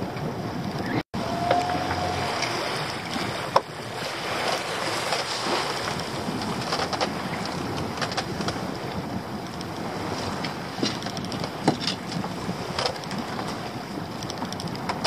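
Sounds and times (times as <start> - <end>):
sea washing around boat: 0.0 - 15.0
wind on microphone: 0.0 - 15.0.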